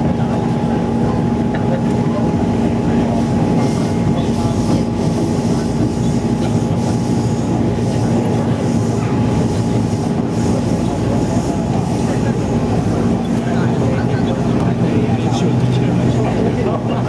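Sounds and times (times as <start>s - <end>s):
train hum: 0.0s - 17.0s
train wheels rumbling on track: 0.0s - 17.0s.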